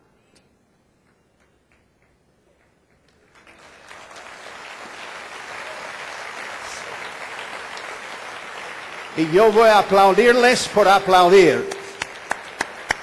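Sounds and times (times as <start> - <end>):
audience applauding: 1.4 - 13.0.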